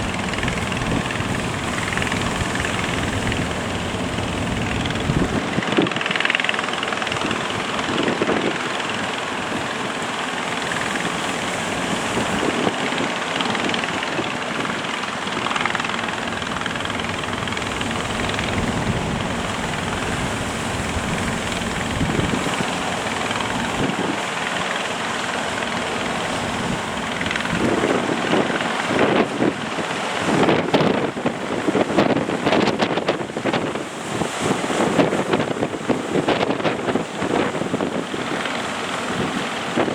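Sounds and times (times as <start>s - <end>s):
boat engines running: 0.0s - 39.9s
wind buffeting microphone: 0.0s - 39.9s.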